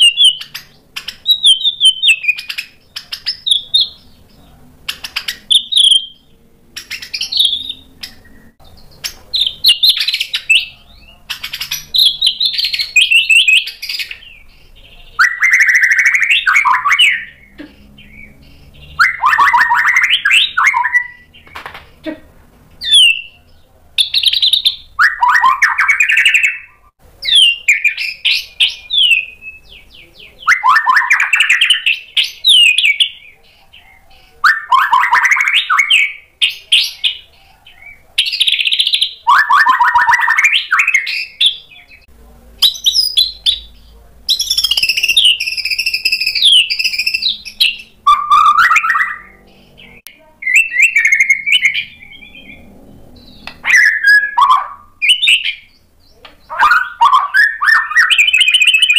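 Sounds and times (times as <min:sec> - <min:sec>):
songbird singing upward phrases: 0:00.0 - 0:22.1, 0:22.8 - 0:58.9.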